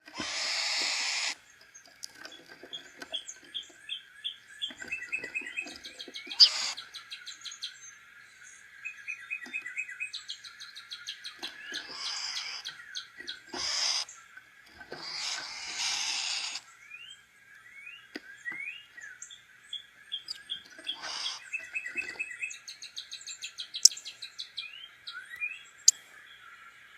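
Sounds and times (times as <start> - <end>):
faint steady background tone: 0.0 - 26.9
songbirds chirping: 0.0 - 26.9.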